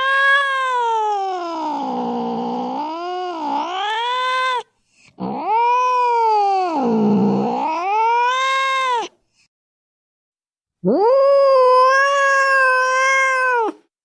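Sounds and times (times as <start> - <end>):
cat yowling: 0.0 - 9.1, 10.8 - 13.9.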